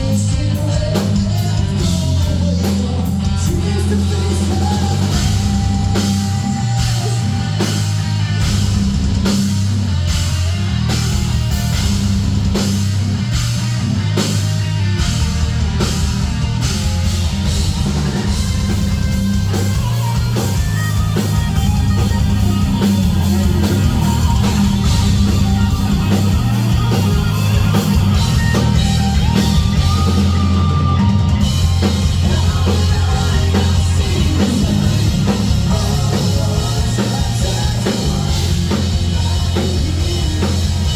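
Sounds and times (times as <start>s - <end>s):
bass guitar: 0.0s - 40.9s
distorted guitars: 0.0s - 40.9s
drum kit beat: 0.0s - 40.9s.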